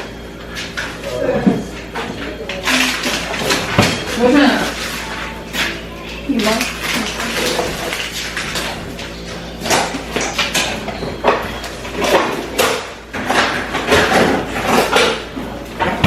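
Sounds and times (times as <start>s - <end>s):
household items clattering: 0.4s - 16.0s.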